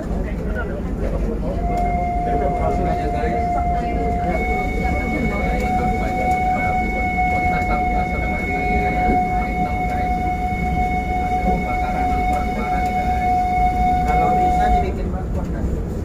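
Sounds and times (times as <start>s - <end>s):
train running rumble: 0.0s - 16.0s
steady high tone: 1.5s - 15.0s.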